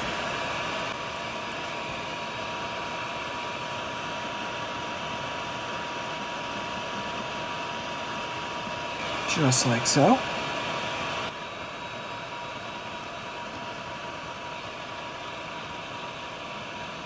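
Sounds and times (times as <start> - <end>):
fan whirring: 0.0 - 17.0
thin steady whine: 0.0 - 17.0.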